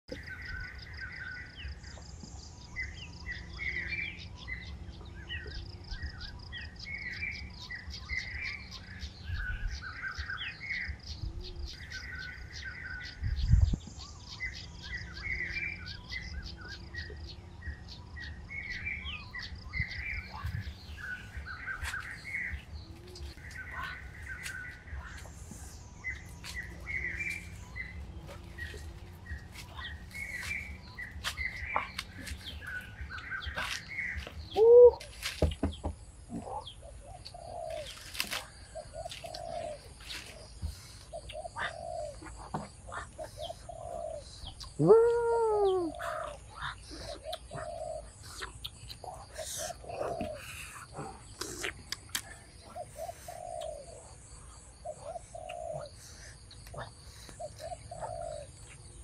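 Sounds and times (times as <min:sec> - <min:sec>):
songbird singing chirpy phrases: 0:00.1 - 0:59.0.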